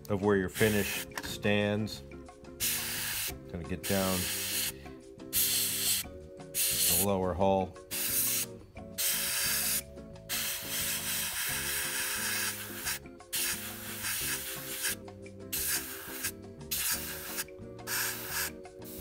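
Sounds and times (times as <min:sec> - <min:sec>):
airbrush spraying hiss: 0:00.6 - 0:01.2, 0:02.6 - 0:07.1, 0:07.9 - 0:19.0.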